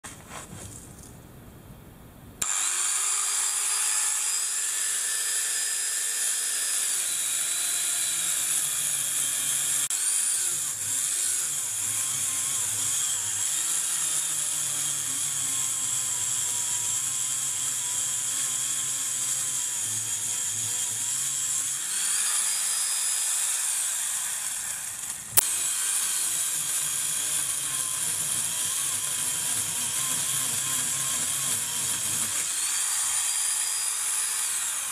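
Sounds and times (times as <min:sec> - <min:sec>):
electric chainsaw cutting wood: 0:02.4 - 0:34.9.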